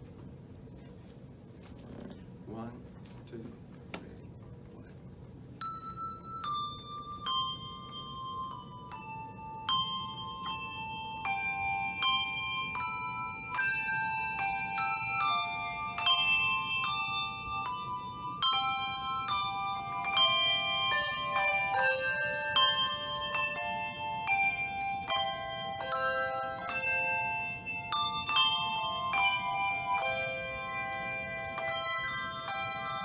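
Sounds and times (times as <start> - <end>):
handbells and handchimes playing: 5.4 - 33.0.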